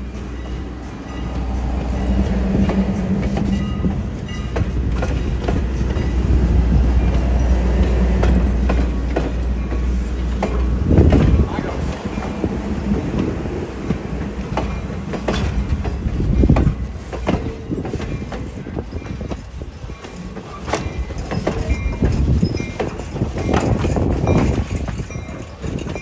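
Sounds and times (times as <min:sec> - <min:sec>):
clanks from train wheels: 0:00.0 - 0:26.0
train rumbling on rails: 0:00.0 - 0:26.0.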